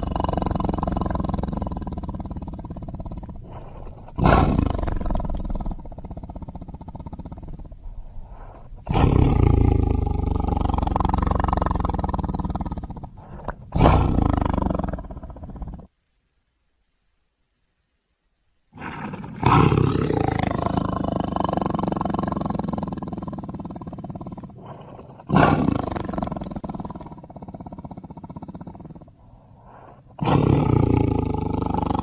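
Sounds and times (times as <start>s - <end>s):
deep rough animal roars: 0.0s - 15.9s, 18.8s - 32.0s.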